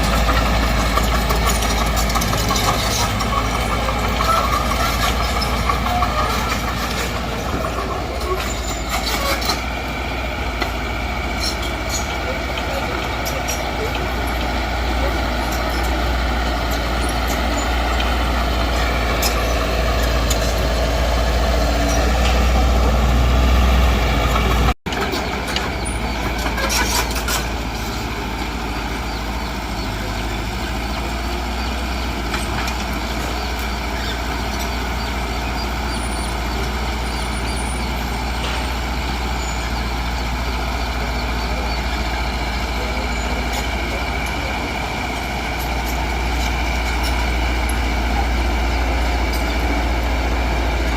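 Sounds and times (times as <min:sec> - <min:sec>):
diesel machinery rumbling: 0:00.0 - 0:50.9.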